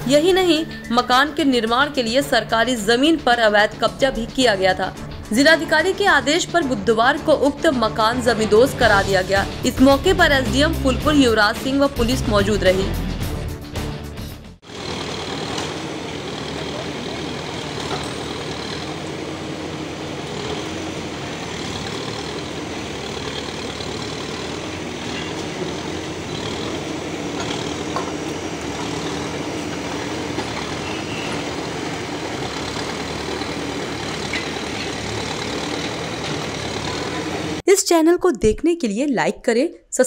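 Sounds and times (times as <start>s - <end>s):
diesel engine running: 0.0s - 37.6s.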